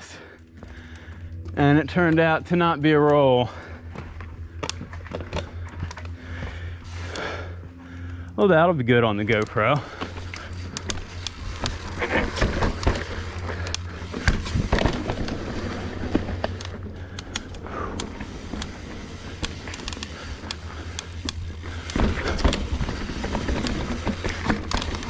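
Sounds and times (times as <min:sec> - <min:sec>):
wind and tyres rumbling: 0:00.1 - 0:25.0
bike clicks and knocks: 0:00.5 - 0:08.2, 0:09.1 - 0:25.0.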